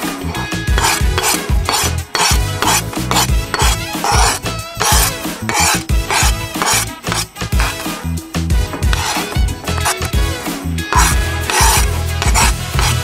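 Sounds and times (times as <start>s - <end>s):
background music with steady beat: 0.0s - 13.0s
vegetables scraped into metal pot: 0.6s - 10.2s, 10.9s - 13.0s.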